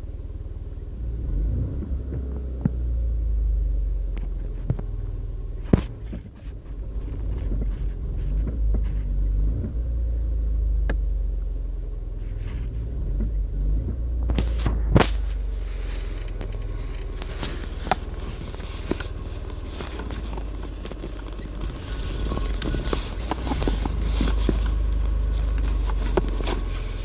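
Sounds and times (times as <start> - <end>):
car engine low rumble: 0.0 - 27.0.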